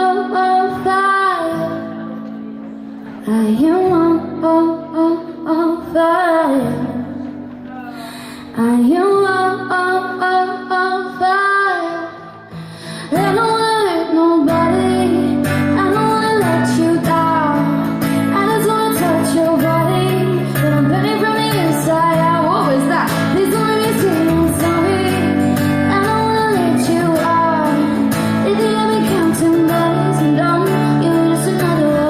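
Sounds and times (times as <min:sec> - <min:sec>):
woman singing: 0:00.0 - 0:02.1, 0:03.1 - 0:07.3, 0:08.0 - 0:32.0.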